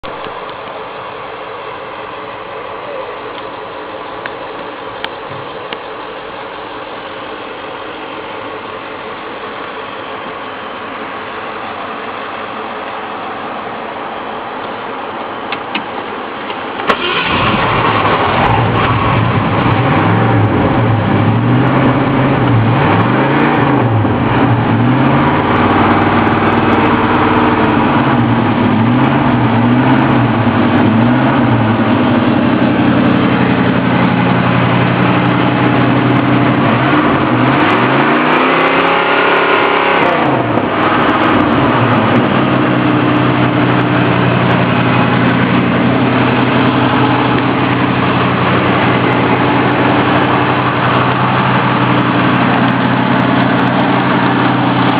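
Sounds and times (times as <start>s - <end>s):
pickup engine idling and revving: 0.0s - 54.9s.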